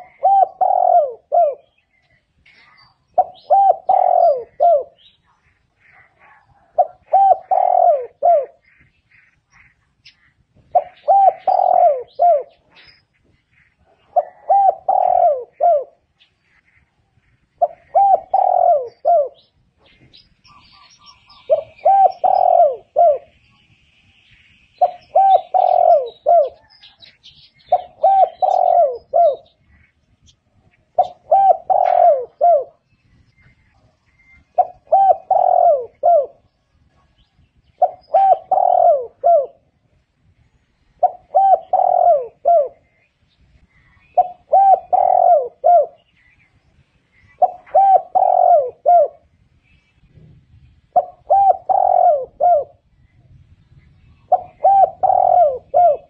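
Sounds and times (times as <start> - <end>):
dove cooing: 0.0 - 23.4, 24.8 - 40.0, 40.9 - 46.3, 47.2 - 49.3, 50.9 - 53.1, 54.2 - 56.0.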